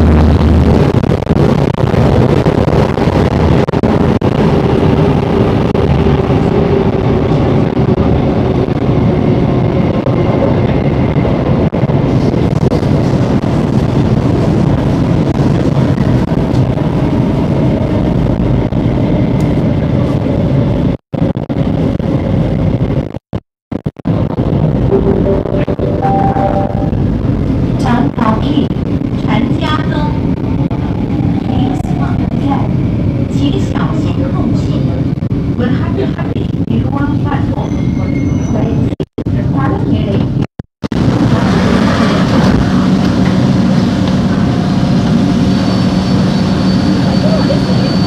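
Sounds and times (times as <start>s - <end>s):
train rumbling in tunnel: 0.0s - 23.2s, 23.8s - 48.0s.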